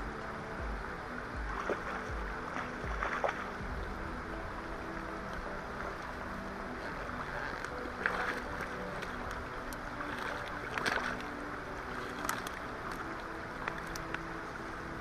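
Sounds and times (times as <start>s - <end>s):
background music: 0.0s - 15.0s
river water rushing: 0.0s - 15.0s
wind noise: 0.0s - 15.0s.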